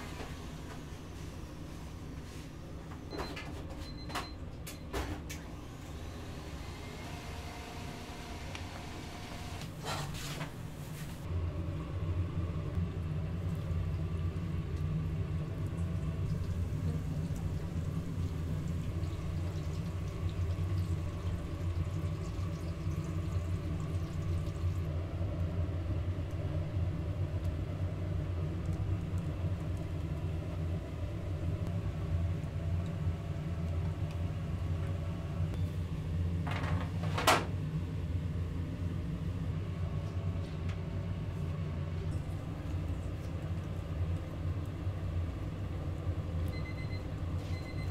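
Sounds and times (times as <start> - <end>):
kitchen machinery hum: 0.0 - 47.9.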